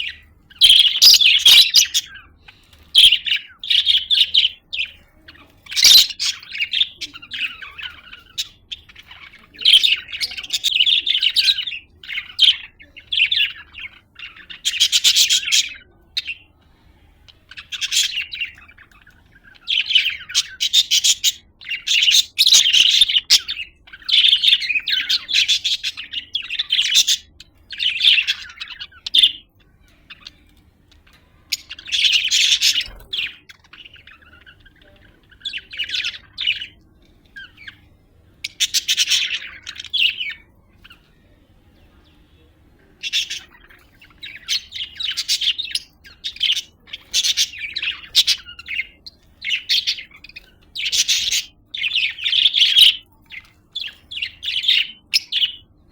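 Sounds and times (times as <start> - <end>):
budgerigar chirping: 0.0 - 2.3, 2.9 - 4.9, 5.7 - 16.4, 17.5 - 29.5, 31.4 - 36.8, 38.4 - 40.4, 43.0 - 53.0, 53.8 - 55.6.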